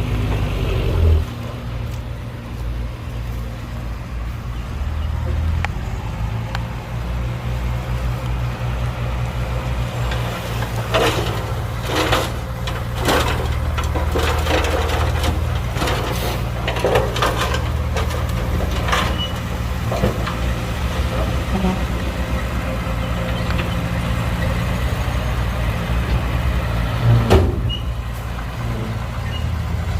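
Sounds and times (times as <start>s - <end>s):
diesel machinery engine running: 0.0s - 29.9s.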